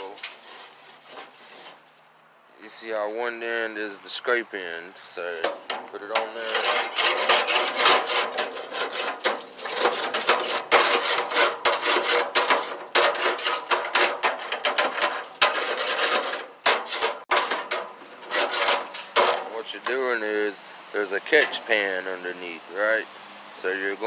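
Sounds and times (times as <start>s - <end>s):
scraper scraping grill grate: 0.0s - 2.2s, 4.8s - 22.3s.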